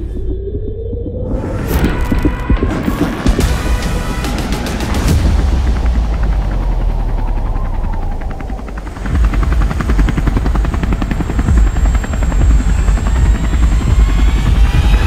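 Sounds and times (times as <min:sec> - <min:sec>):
helicopter rotor blades beating: 0:00.0 - 0:15.0.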